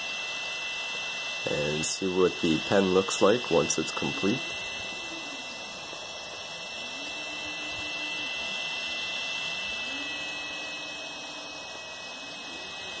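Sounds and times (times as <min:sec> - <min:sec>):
cooling fans hissing: 0:00.0 - 0:13.0
high steady whine: 0:00.0 - 0:13.0
stepper motors humming: 0:00.0 - 0:13.0.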